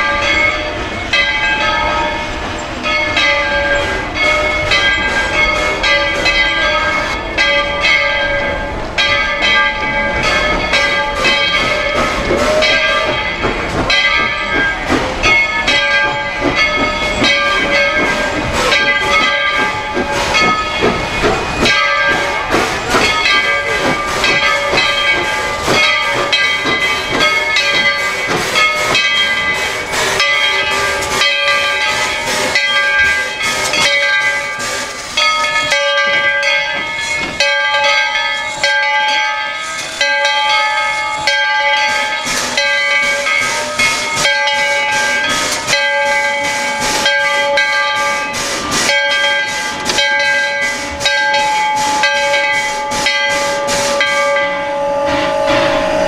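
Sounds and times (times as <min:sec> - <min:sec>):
steam locomotive exhaust beats: 0:00.0 - 0:56.0
high whistling steam hiss: 0:03.6 - 0:56.0.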